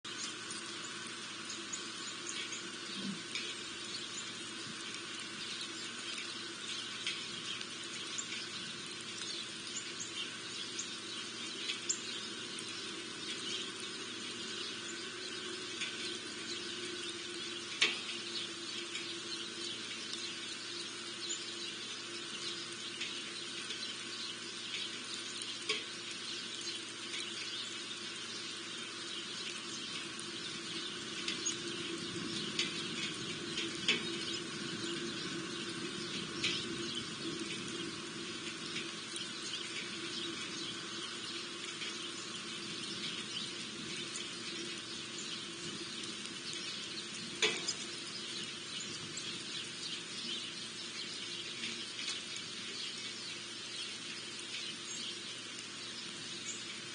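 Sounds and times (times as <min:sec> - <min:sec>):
small birds chirping: 0:00.1 - 0:56.9
steady hiss: 0:00.1 - 0:56.9.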